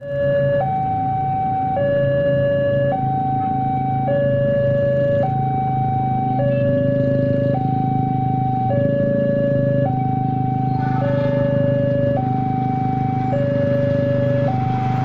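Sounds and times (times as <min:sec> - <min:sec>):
two-tone warning siren: 0:00.0 - 0:15.0
low engine rumble: 0:00.6 - 0:15.0.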